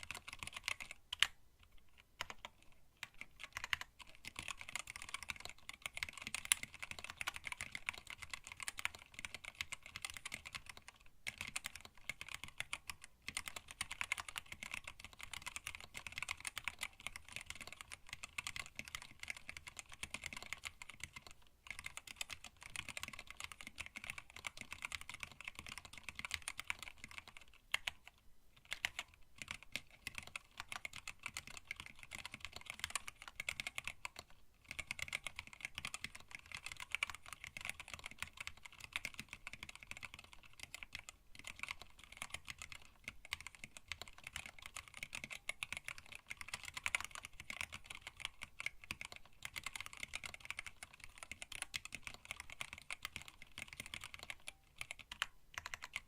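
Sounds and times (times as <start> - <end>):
mechanical keyboard keystroke clacks: 2.2 - 28.0, 28.6 - 56.0.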